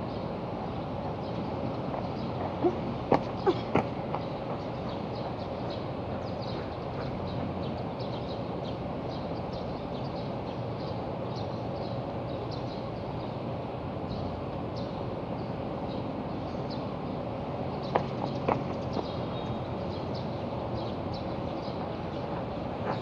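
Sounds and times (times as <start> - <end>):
outdoor background rumble: 0.0 - 23.0
small birds chirping: 0.0 - 23.0.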